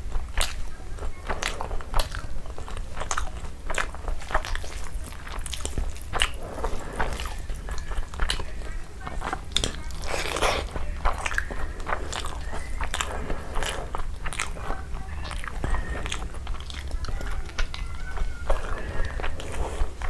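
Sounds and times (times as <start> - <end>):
wet chewing and lip smacks: 0.0 - 20.0.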